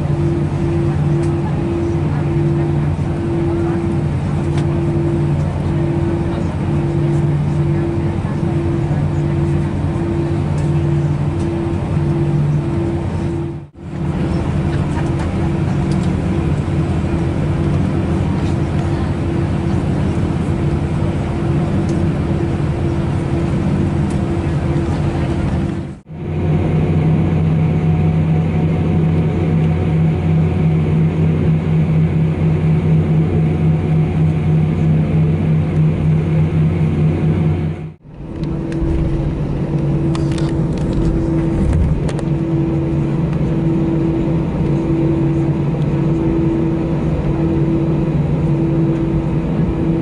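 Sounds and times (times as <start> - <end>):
aircraft cabin hum: 0.0 - 50.0
jet engines idling: 0.0 - 50.0.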